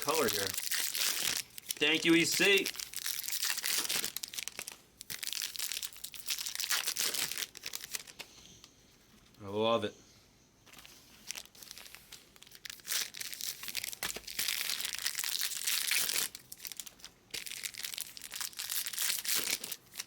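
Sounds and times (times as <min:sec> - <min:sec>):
foil wrappers crinkling: 0:00.0 - 0:08.3, 0:10.7 - 0:20.0.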